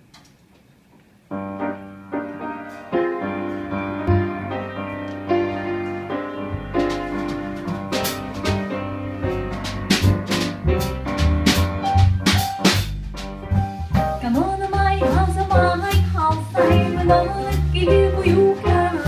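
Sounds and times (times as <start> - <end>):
jazz piano: 0.0 - 19.0
upright bass: 3.6 - 19.0.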